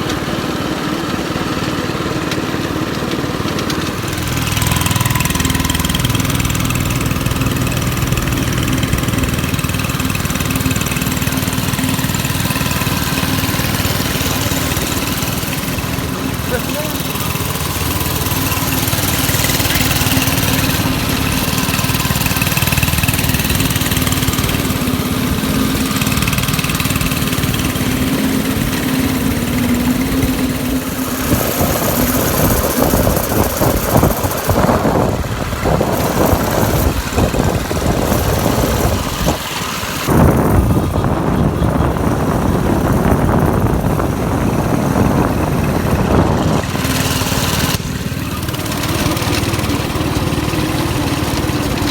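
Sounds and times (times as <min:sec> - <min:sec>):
go-kart engine running: 0:00.0 - 0:51.9.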